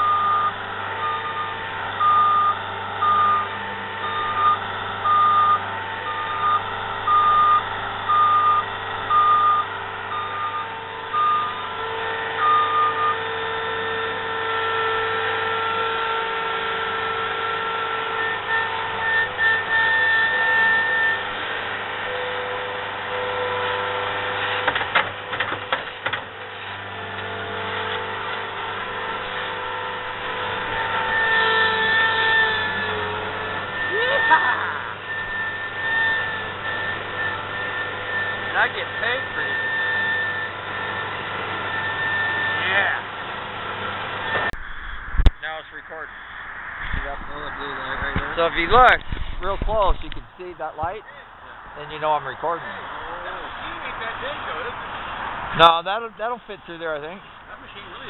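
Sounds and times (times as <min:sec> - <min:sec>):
reversing alarm beeping: 0:00.0 - 0:24.8, 0:26.4 - 0:49.0
engine running: 0:00.0 - 0:58.0
hydraulic whine: 0:00.0 - 0:58.0.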